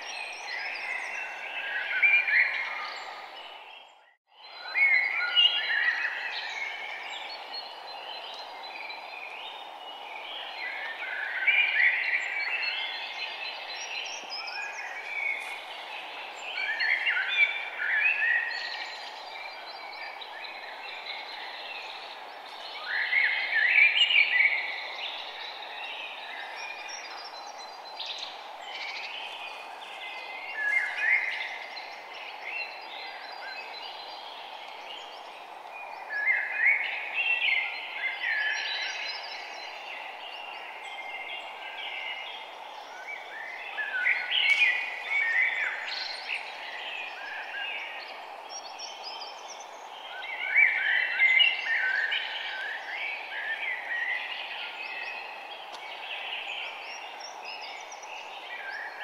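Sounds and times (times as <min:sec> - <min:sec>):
songbirds chirping and twittering: 0:00.0 - 0:59.0
steady background hiss: 0:04.5 - 0:59.0.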